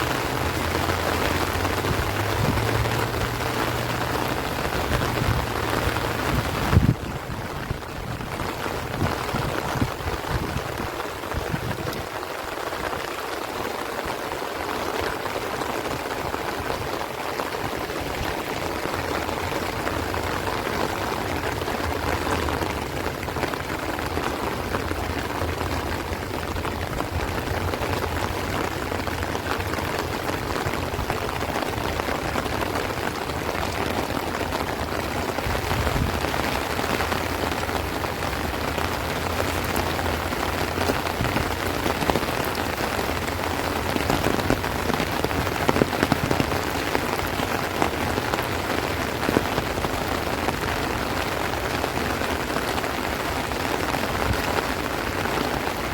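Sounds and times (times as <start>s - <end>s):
heavy rain on plants: 0.0s - 55.9s.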